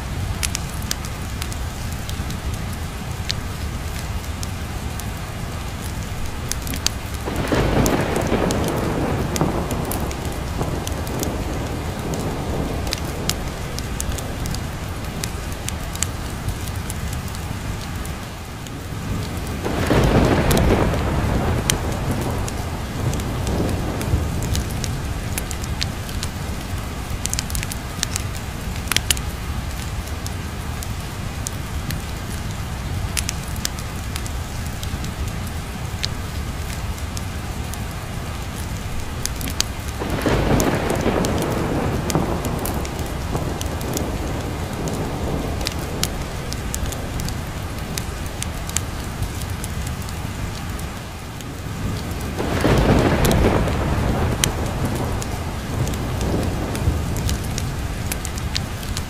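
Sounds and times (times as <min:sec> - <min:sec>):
fireplace fire crackling: 0:00.0 - 0:59.0
heavy rain: 0:00.0 - 0:59.0
thunder rumbling: 0:00.0 - 0:59.0.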